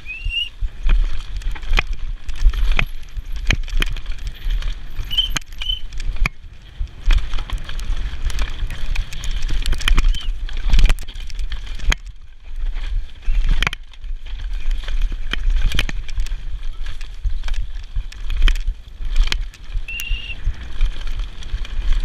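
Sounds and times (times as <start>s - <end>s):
bike tyres rolling over stones: 0.0s - 22.0s
wind on microphone: 0.0s - 22.0s
chain and frame rattling: 1.0s - 19.7s.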